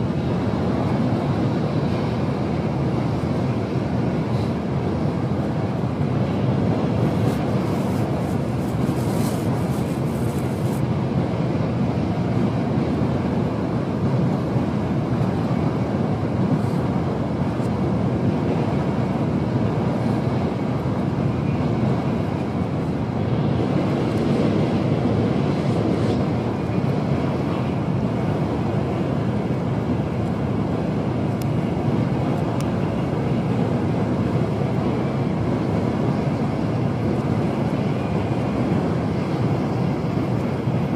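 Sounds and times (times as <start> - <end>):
train running at speed: 0.0 - 40.9.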